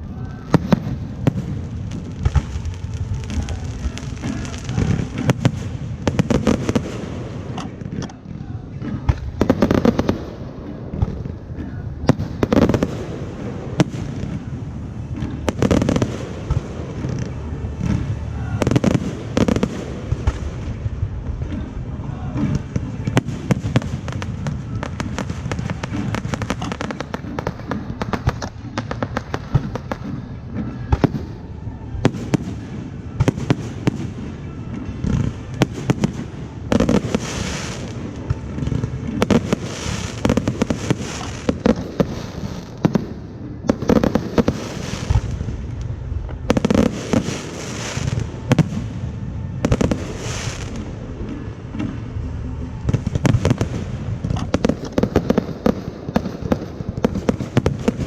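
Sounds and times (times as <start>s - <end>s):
fireworks bangs and pops: 0.0s - 58.0s
fireworks hissing crackle: 0.0s - 58.0s.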